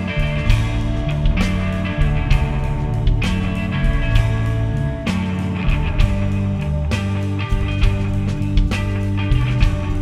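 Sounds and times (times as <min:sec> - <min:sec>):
electric guitar chords: 0:00.0 - 0:10.0
rock band playing live: 0:00.0 - 0:10.0.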